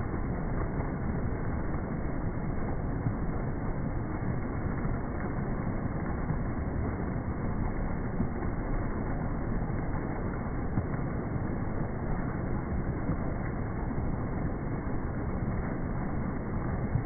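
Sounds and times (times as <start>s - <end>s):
fountain jets splashing into pool: 0.0s - 17.0s.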